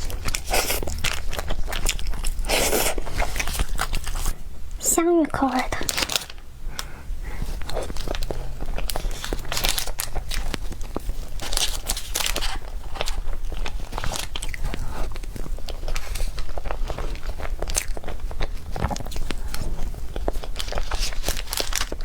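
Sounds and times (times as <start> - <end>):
person chewing food: 0.0 - 4.4, 5.9 - 22.0.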